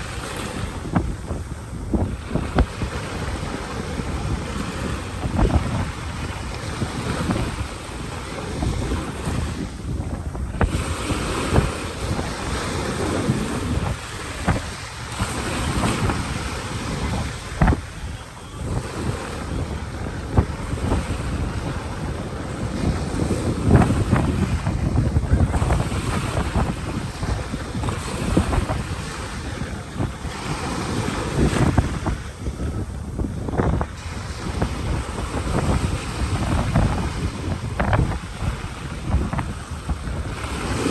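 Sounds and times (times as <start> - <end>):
ocean waves breaking: 0.0 - 40.9
wind buffeting microphone: 0.0 - 40.9.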